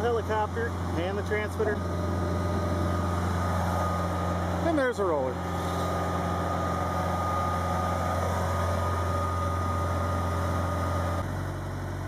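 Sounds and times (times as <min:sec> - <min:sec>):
thin steady whine: 0:00.0 - 0:11.3
diesel engine droning: 0:00.0 - 0:12.0.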